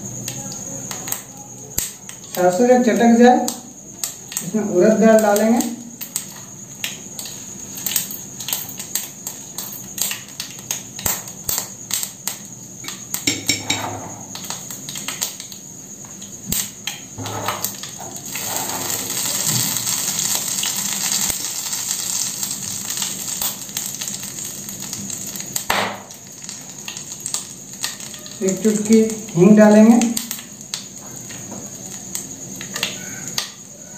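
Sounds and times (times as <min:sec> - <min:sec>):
hissing sizzle in oil: 0:00.0 - 0:33.9
seeds popping in hot oil: 0:00.0 - 0:33.9.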